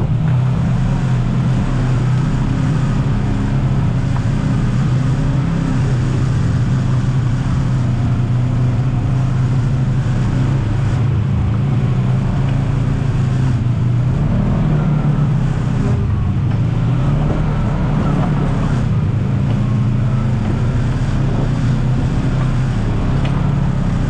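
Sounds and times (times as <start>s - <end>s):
vehicle engine at low revs: 0.0s - 24.0s.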